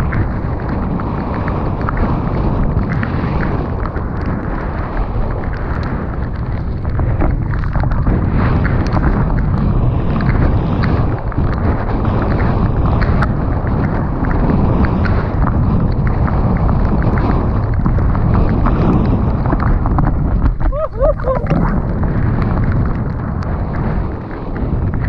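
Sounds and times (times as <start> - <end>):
bike clicks and rattles: 0.0 - 20.6
wind rushing over microphone: 0.0 - 25.0.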